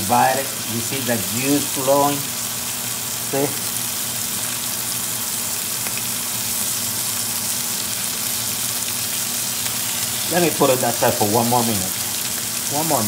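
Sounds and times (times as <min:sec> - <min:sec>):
burger patties sizzling: 0:00.0 - 0:13.0.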